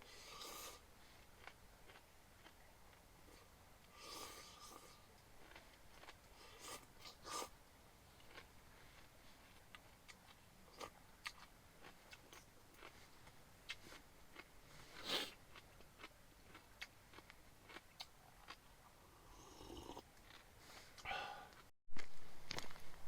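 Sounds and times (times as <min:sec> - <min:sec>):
chewing and crunching: 0:00.3 - 0:07.5, 0:08.2 - 0:19.0, 0:20.0 - 0:22.8.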